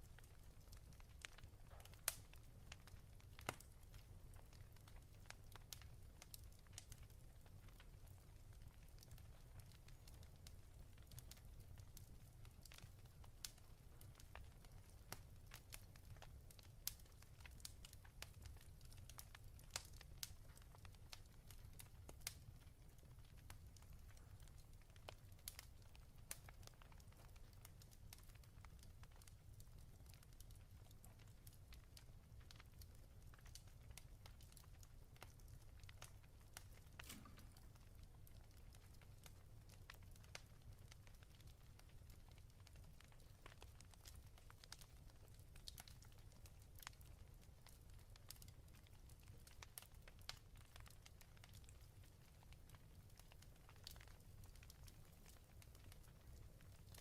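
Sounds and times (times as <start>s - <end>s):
fireplace crackling: 0.0s - 57.0s.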